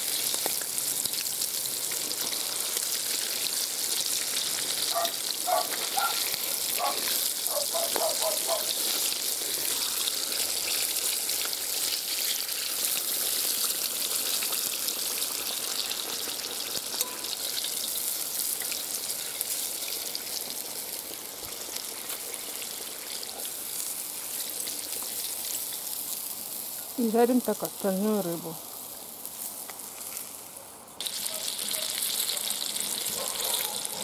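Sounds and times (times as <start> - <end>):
fish deep-frying in oil: 0.0 - 34.0.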